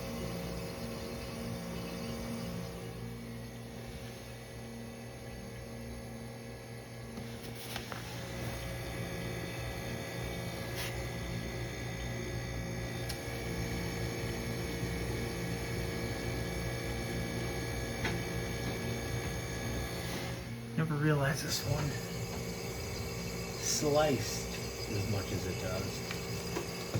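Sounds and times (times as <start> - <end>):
dehumidifier humming: 0.0 - 26.9.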